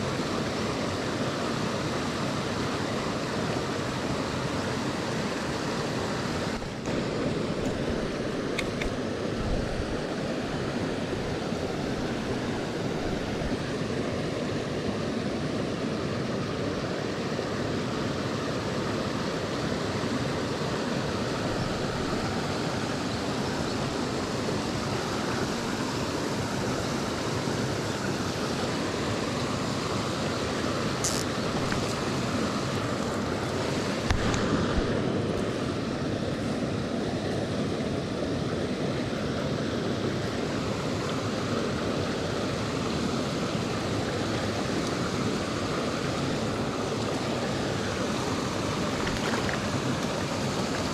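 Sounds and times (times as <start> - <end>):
creek flowing over rocks: 0.0 - 50.9.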